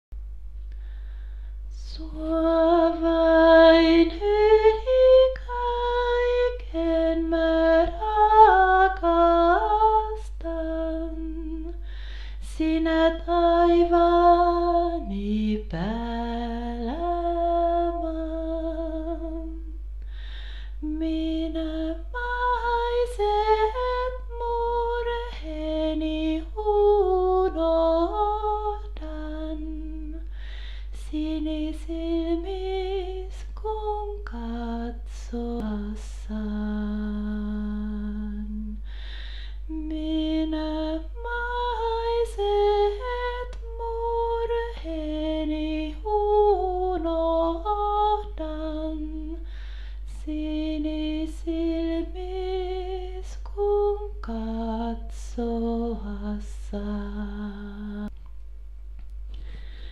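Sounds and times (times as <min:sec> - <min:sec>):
steady low hum: 0:00.1 - 0:59.9.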